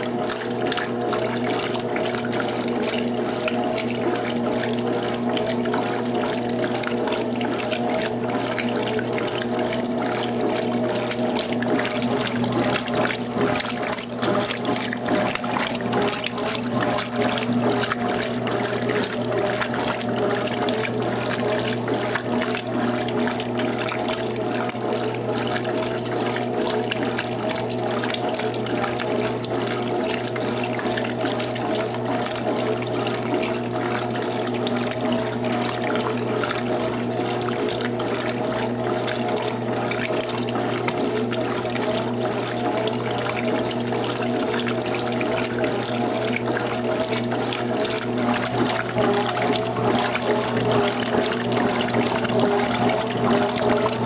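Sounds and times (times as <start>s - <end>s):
washing machine mechanical hum: 0.0s - 54.0s
water rushing in washing machine: 0.0s - 54.0s.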